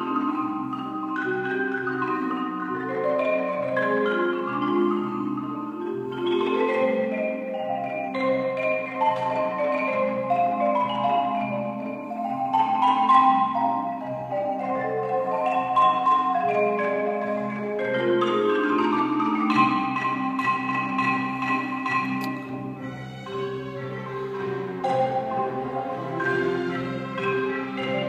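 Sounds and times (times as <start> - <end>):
low orchestral accompaniment: 0.0 - 28.0
marimba playing quick runs: 0.0 - 28.0.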